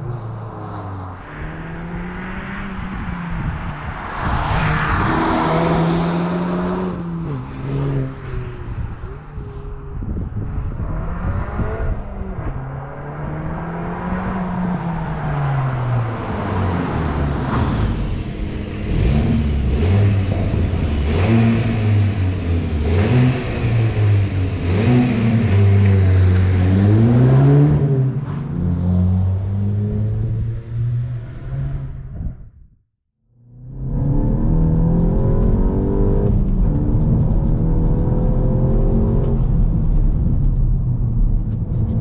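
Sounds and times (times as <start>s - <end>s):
car engine accelerating: 0.0s - 32.4s, 33.5s - 42.0s.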